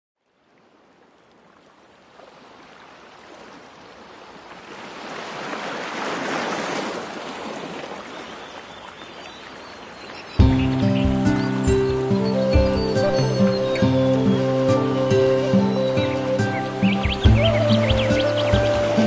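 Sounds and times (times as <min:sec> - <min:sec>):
sea waves washing: 0:01.6 - 0:19.0.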